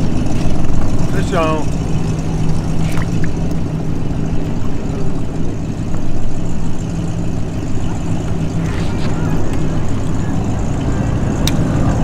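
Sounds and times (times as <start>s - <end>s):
low motor hum: 0.0s - 12.0s
low rumble: 0.0s - 12.0s.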